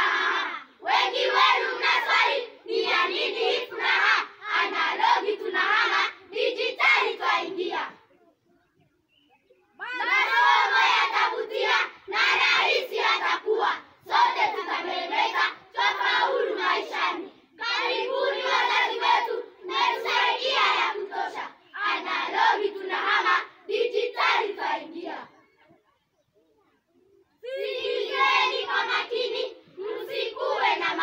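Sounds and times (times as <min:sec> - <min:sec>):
children singing in unison: 0:00.0 - 0:08.0, 0:09.8 - 0:25.4, 0:27.4 - 0:31.0.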